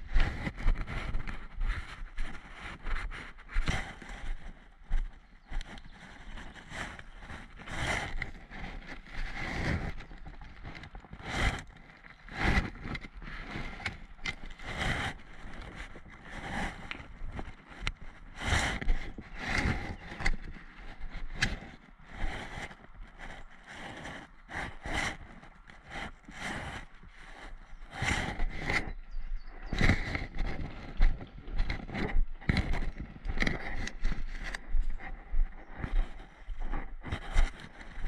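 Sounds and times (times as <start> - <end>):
footsteps on dirt trail: 0.0 - 38.0.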